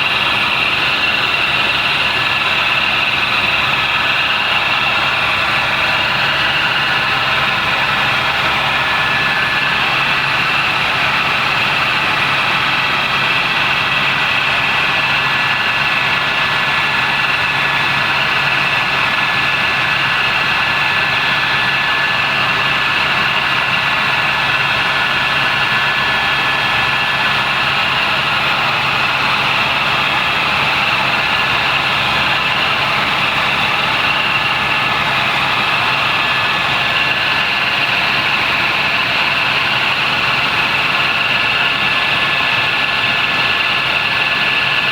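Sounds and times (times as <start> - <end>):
helicopter engine and rotor noise: 0.0 - 44.9.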